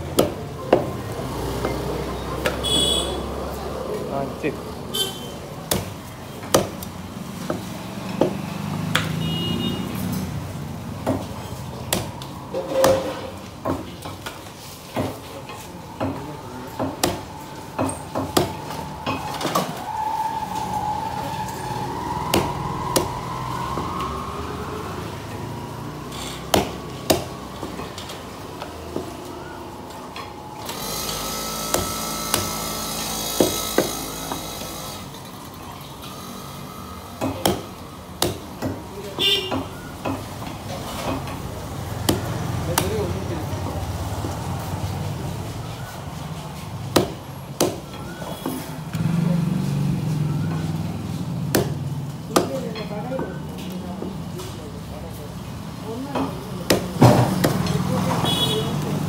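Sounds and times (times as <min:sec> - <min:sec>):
loud steady background noise: 0:00.0 - 0:59.0.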